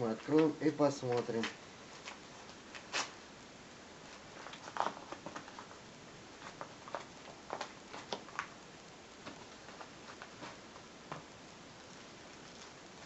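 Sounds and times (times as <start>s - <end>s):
parcel packaging crackling and rustling: 0.0s - 13.0s.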